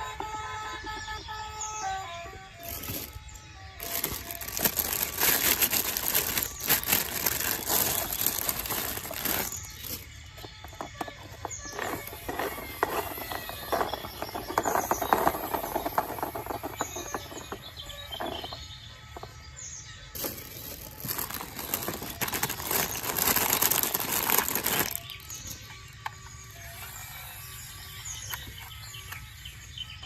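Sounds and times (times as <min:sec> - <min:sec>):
plastic toy clicks and rattles: 0:02.6 - 0:19.4, 0:20.1 - 0:29.4.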